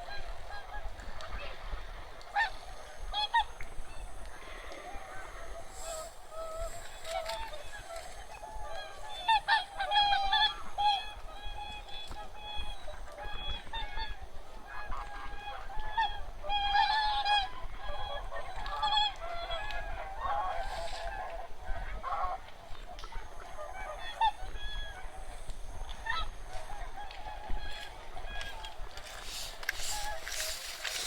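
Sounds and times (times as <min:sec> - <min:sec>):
geese and swans honking: 0:00.0 - 0:31.0.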